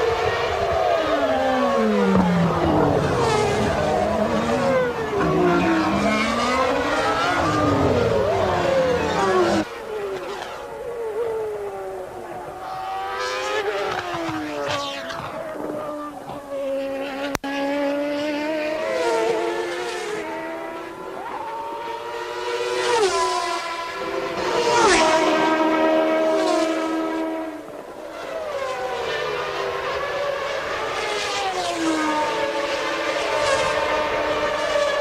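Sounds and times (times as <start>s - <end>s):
racing car engines passing: 0.0s - 35.0s.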